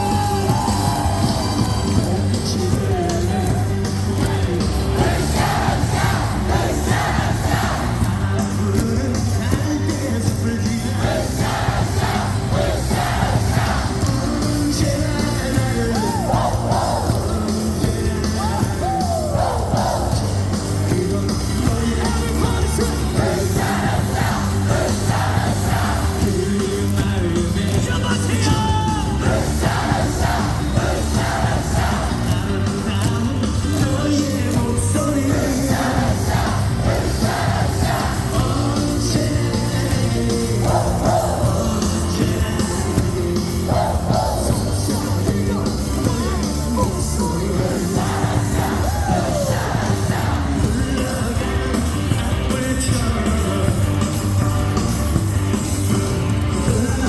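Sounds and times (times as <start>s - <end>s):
crowd yelling: 0.0s - 57.0s
loud amplified music: 0.0s - 57.0s
stadium crowd singing: 0.0s - 57.0s.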